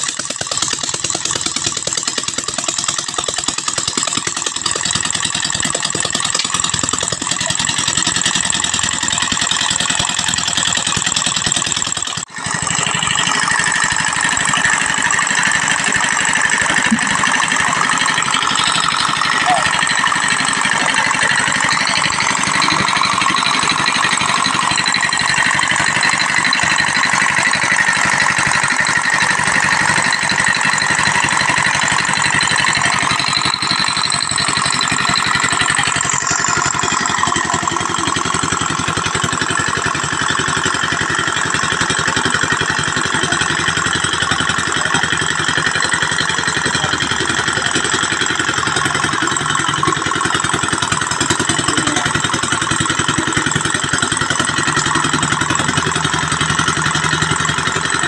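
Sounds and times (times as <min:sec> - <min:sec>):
pressing machine running: 0:00.0 - 0:58.0.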